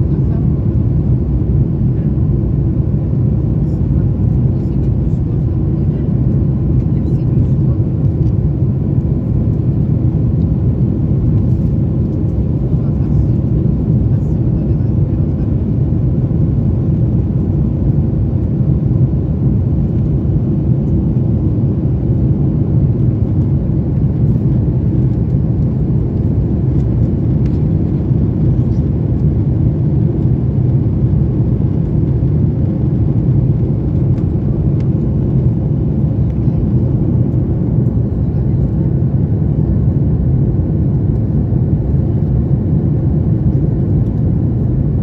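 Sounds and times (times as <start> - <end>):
airplane cabin engine drone: 0.0 - 45.0.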